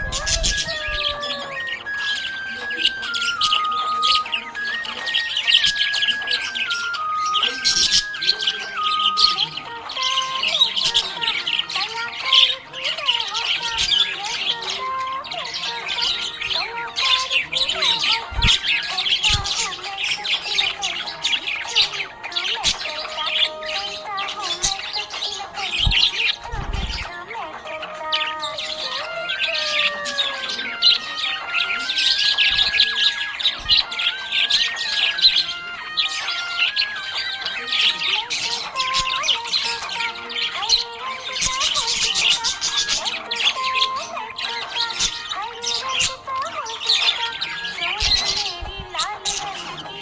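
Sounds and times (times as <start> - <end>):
budgerigars chirping and chattering: 0.0 - 50.0.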